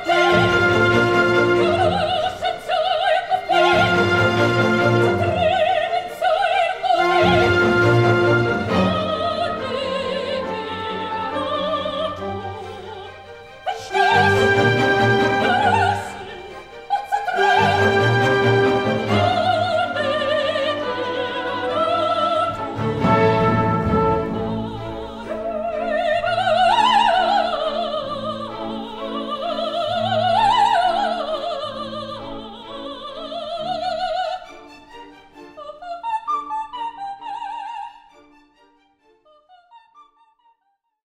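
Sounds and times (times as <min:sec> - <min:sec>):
orchestral accompaniment: 0:00.0 - 0:39.2
operatic singing: 0:00.0 - 0:40.2.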